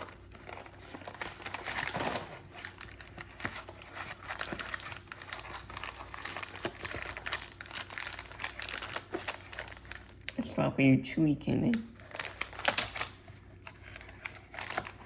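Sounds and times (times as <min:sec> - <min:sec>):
plastic packaging crinkling: 0:00.0 - 0:10.6, 0:11.6 - 0:15.0.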